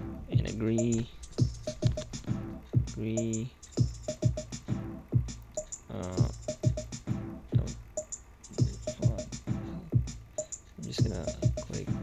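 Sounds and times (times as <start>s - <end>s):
electronic music with drum-machine beat: 0.0s - 12.0s.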